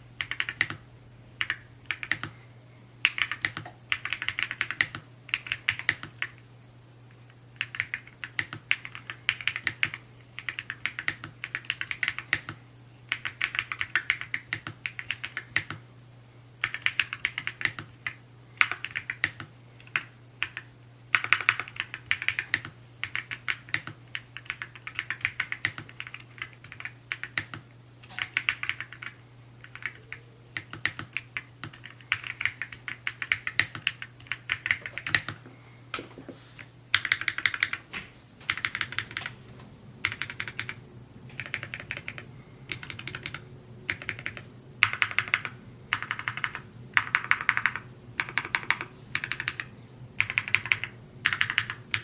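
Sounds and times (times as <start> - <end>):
faint low hum: 0.0 - 52.0
mechanical keyboard typing: 0.2 - 0.8, 1.4 - 2.4, 3.0 - 6.4, 7.6 - 15.8, 16.6 - 35.4, 36.9 - 37.8, 38.5 - 39.4, 40.0 - 52.0.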